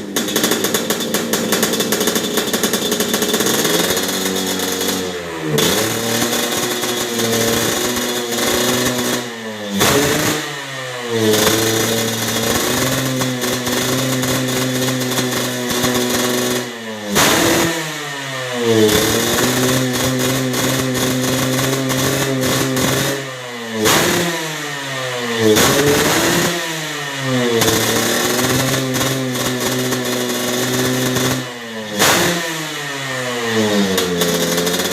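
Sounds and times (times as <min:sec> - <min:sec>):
engine revving on throttle blips: 0:00.0 - 0:34.9
motorcycle engine idling: 0:00.0 - 0:34.9.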